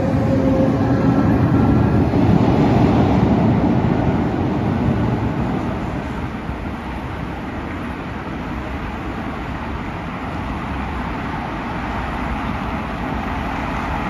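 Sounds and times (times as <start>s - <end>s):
electric train departing: 0.0s - 14.0s
road traffic rumble: 0.0s - 14.0s.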